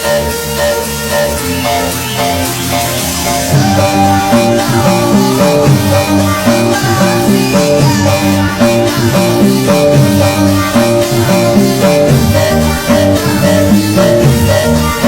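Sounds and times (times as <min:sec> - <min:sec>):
bass line: 0:00.0 - 0:15.0
guitar-led background music: 0:00.0 - 0:15.0.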